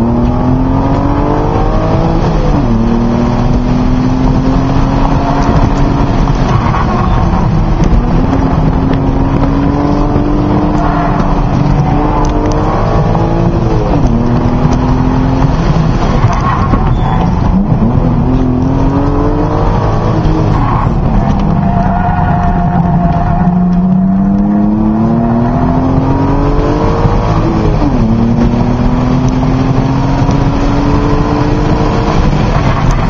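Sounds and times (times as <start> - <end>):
car engine revving: 0.0 - 33.0
road and wind noise: 0.0 - 33.0.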